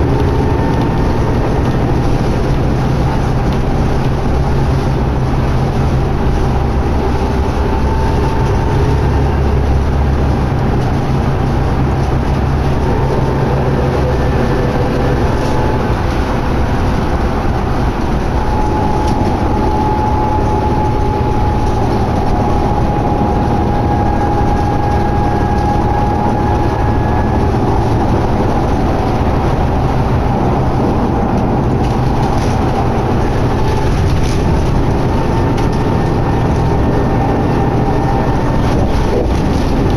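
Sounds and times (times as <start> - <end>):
bus engine rumble: 0.0 - 39.9
road and tyre noise: 0.0 - 39.9
faint high whine: 4.4 - 39.3.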